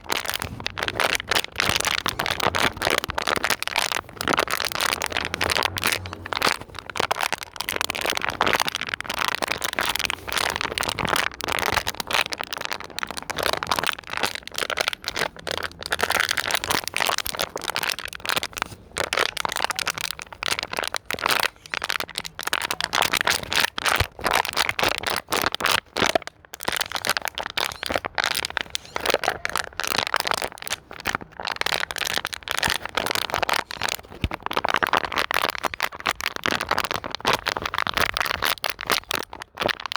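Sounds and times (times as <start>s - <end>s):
plastic bottle crinkling: 0.0s - 39.9s.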